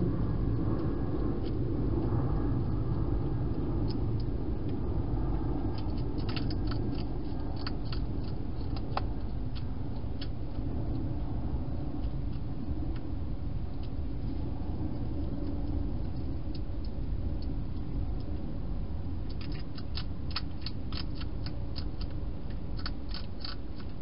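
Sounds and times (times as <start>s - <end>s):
low rumble: 0.0s - 24.0s
hedgehog crunching dry food: 0.1s - 24.0s.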